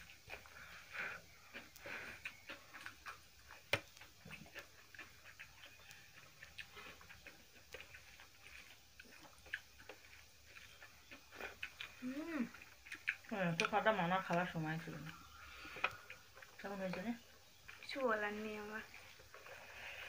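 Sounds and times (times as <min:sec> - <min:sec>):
chewing clicks and smacks: 0:00.0 - 0:20.0.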